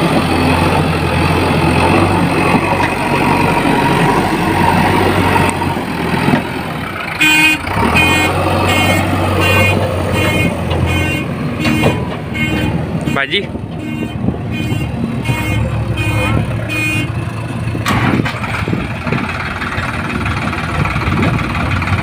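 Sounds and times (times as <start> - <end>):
diesel engine running heavily: 0.0 - 22.0.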